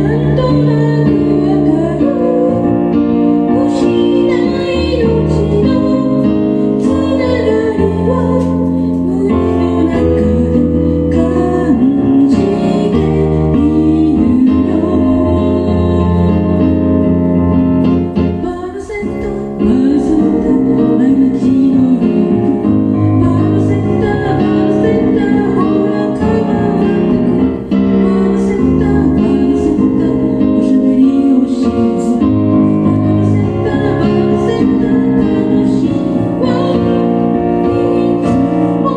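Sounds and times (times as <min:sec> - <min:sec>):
lead vocal singing: 0:00.0 - 0:16.8, 0:18.6 - 0:38.9
keyboard: 0:00.0 - 0:38.9.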